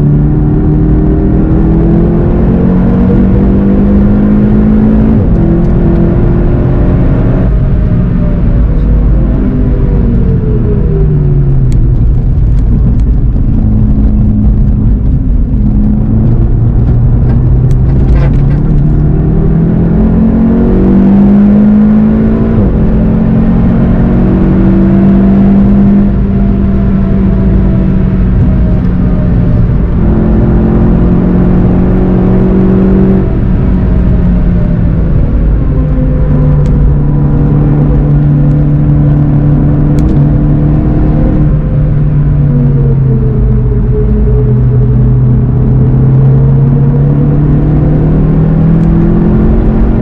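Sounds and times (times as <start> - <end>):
car engine from inside cabin: 0.0 - 50.0
tyre and road rumble: 0.0 - 50.0.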